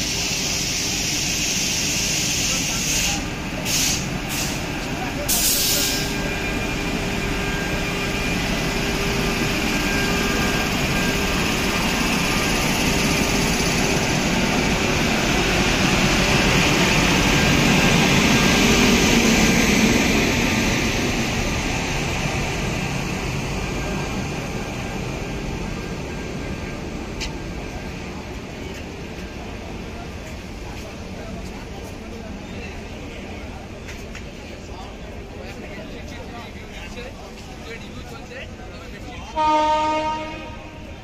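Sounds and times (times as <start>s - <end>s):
electric locomotive whirring roar: 0.0s - 41.0s.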